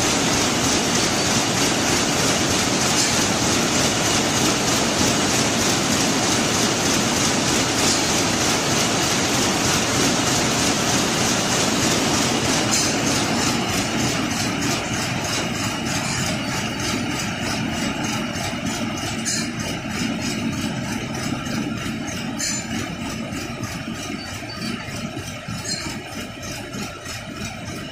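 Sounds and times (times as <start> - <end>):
knitting machine clattering: 0.0 - 27.9.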